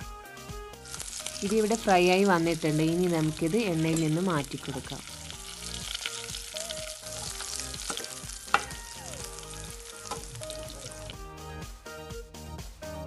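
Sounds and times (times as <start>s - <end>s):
meat sizzling in hot oil: 0.8s - 11.2s.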